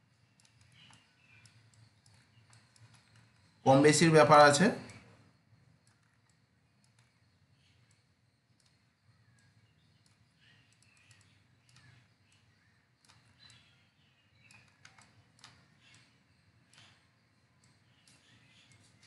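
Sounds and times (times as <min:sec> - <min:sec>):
computer mouse clicks: 0:00.2 - 0:03.6, 0:04.8 - 0:19.0.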